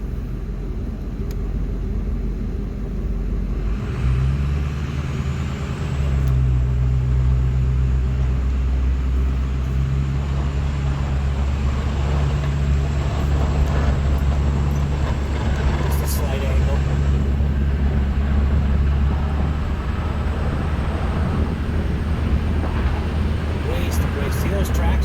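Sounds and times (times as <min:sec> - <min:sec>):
plow pushing snow: 0:00.0 - 0:25.0
truck engine revving: 0:03.0 - 0:25.0.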